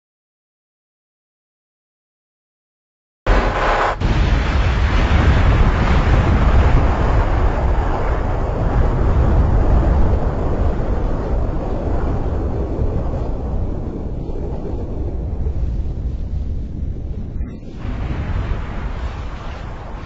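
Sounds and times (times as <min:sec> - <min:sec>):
loud deep rumbling: 0:03.3 - 0:20.0.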